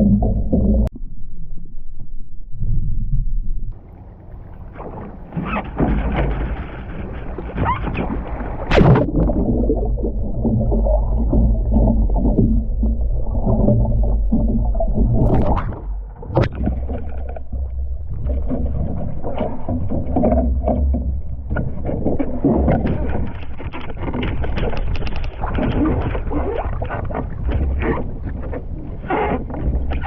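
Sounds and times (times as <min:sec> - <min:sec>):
wind rumble on microphone: 0:00.0 - 0:30.0
paddle splashing water: 0:03.7 - 0:30.0.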